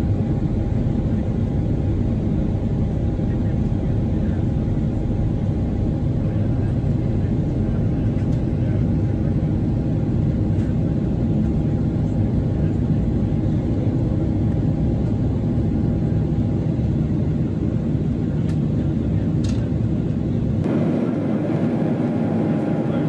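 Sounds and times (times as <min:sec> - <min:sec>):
airflow rush in aircraft cabin: 0:00.0 - 0:23.0
jet engine hum: 0:00.0 - 0:23.0.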